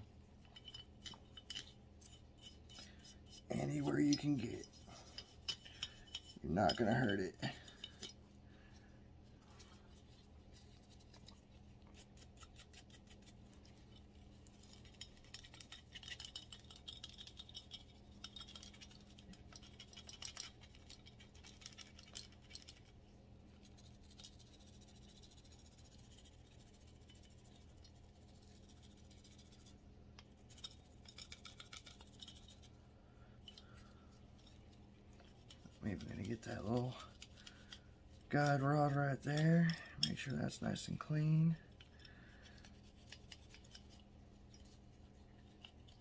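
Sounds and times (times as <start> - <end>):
low steady hum: 0.0 - 46.0
brush scrubbing metal: 0.4 - 8.3, 9.3 - 32.8, 33.4 - 46.0.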